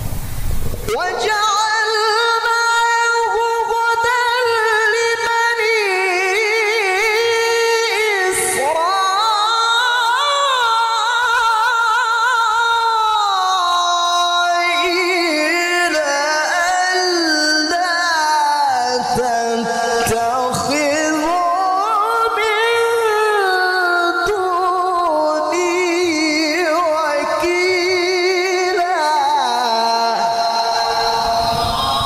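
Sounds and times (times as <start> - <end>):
man reciting melismatically: 0.8 - 32.0.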